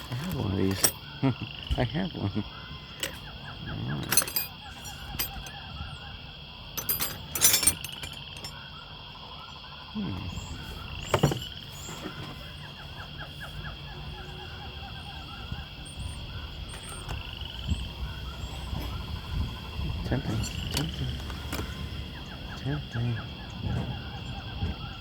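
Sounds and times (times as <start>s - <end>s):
insect-like droning: 0.0s - 25.0s.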